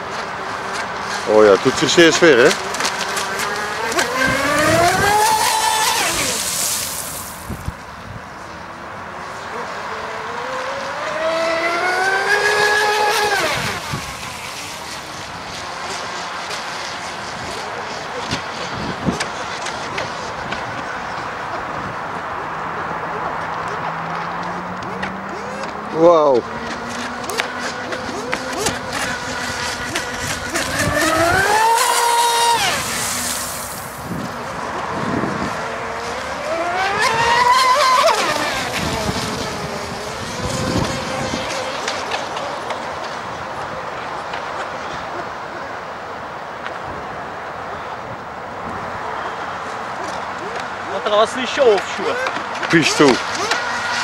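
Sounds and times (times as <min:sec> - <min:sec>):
model boat motor whining: 0:00.0 - 0:07.6, 0:09.5 - 0:46.4, 0:47.9 - 0:54.0.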